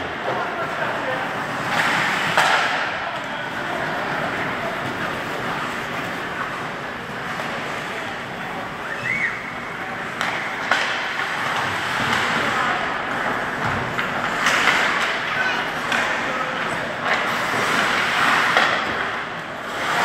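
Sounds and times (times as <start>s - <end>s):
skates on ice: 0.1s - 20.0s
hockey sticks and puck knocking: 0.2s - 6.6s, 10.1s - 20.0s.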